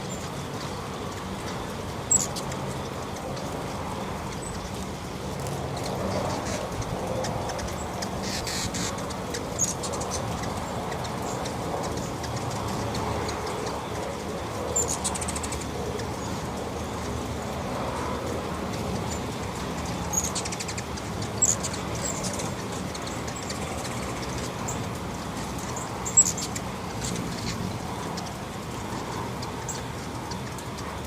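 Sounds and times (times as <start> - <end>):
hummingbirds chipping and trilling: 0.0 - 31.0.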